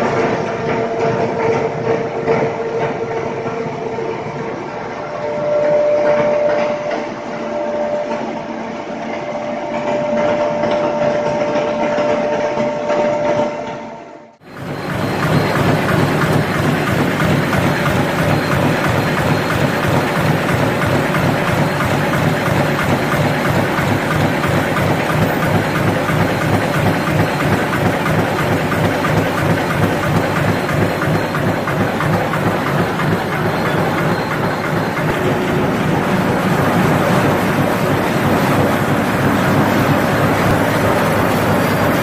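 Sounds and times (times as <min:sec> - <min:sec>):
printing machine running: 0:00.0 - 0:13.4, 0:14.4 - 0:42.0.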